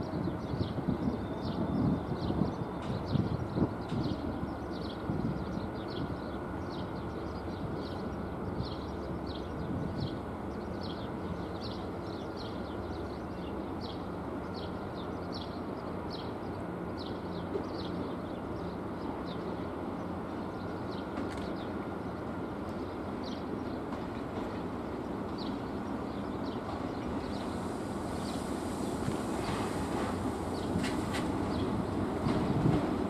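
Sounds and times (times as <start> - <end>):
train rumble and hum: 0.0 - 33.0.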